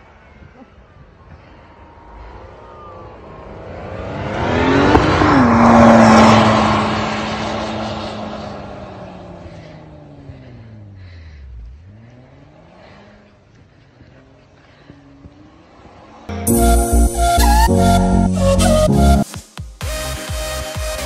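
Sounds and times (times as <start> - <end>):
car engine revving: 1.9 - 19.2.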